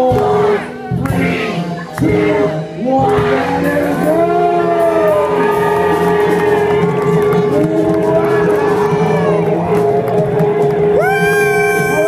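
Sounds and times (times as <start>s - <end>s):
drums: 0.0s - 12.0s
person singing: 0.0s - 12.0s.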